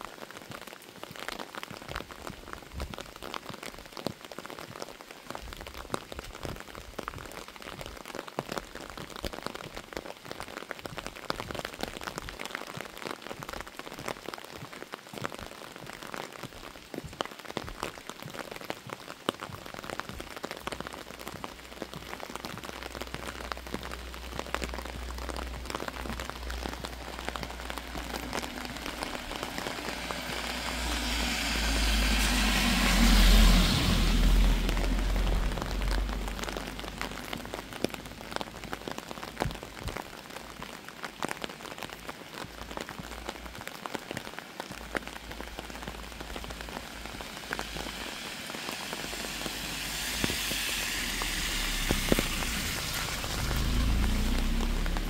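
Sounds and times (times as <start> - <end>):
raindrops ticking close by: 0.0 - 55.0
steady rain falling: 0.0 - 55.0.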